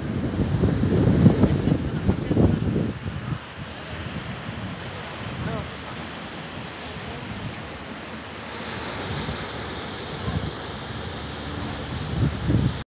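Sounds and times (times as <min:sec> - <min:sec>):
surf breaking on rocky shore: 0:00.0 - 0:12.8
wind buffeting microphone: 0:00.0 - 0:12.8.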